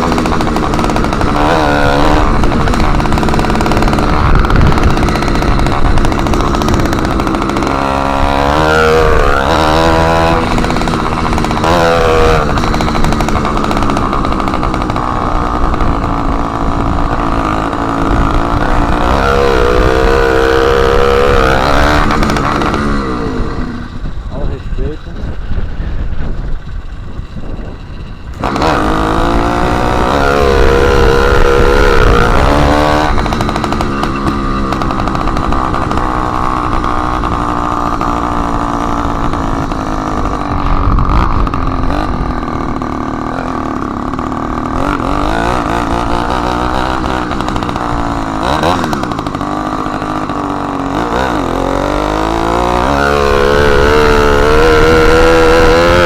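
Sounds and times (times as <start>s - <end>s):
motorized bicycle engine revving: 0.0s - 56.0s.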